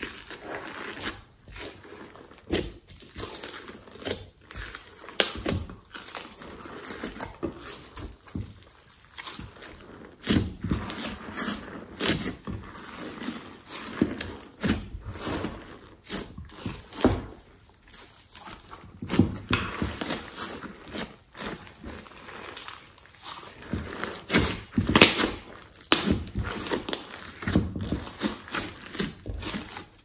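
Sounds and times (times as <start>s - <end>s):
slime squishing and popping: 0.0s - 12.6s, 13.6s - 30.0s.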